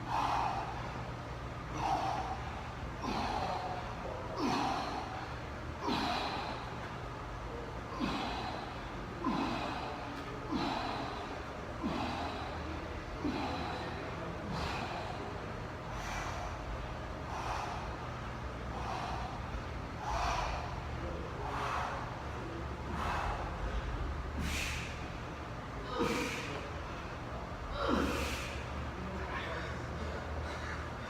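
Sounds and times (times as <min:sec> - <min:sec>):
person breathing hard: 0:00.0 - 0:06.9, 0:07.9 - 0:28.8
steady low hum: 0:00.0 - 0:31.0.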